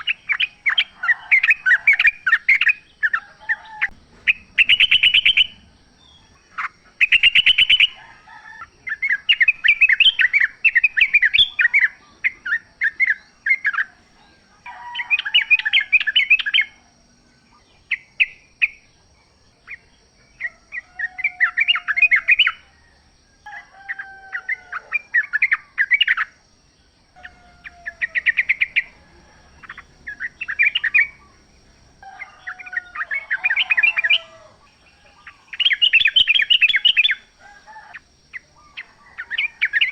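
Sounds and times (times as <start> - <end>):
bulbuls singing bubbly chirps: 0.0 - 39.9.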